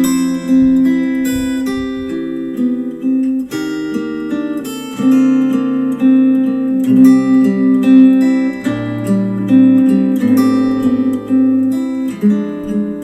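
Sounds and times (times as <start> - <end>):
acoustic guitar music through speaker: 0.0 - 13.0.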